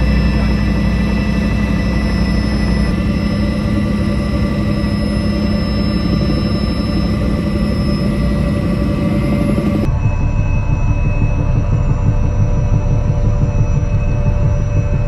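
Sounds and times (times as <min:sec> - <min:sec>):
helicopter cabin drone: 0:00.0 - 0:15.0
thin steady whine: 0:00.0 - 0:15.0.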